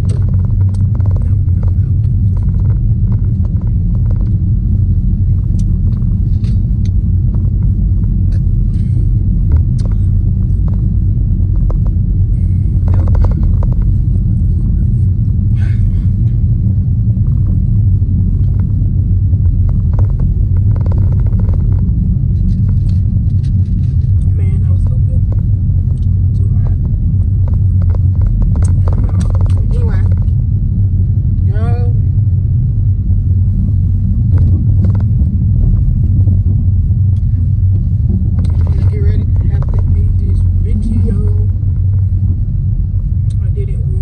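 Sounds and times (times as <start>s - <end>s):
low rumble: 0.0s - 44.0s.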